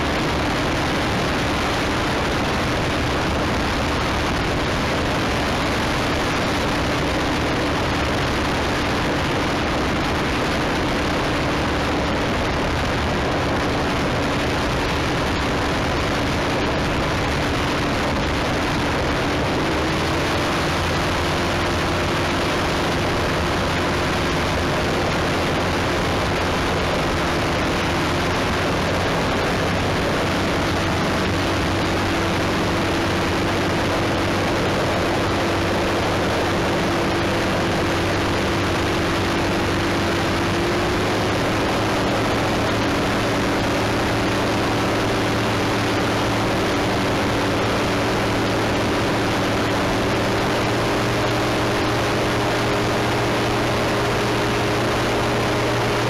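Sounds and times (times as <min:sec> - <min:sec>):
propeller aircraft engine droning: 0:00.0 - 0:56.0.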